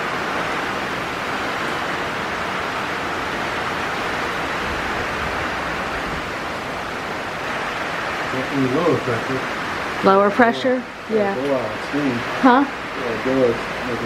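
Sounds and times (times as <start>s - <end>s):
heavy rain: 0.0s - 14.0s
strong wind: 0.0s - 14.0s.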